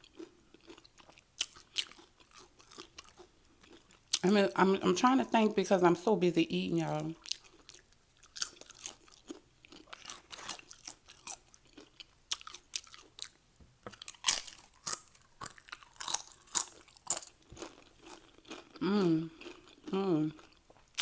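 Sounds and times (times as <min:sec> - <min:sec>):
crunching tortilla chips: 0:00.0 - 0:04.2, 0:07.2 - 0:21.0.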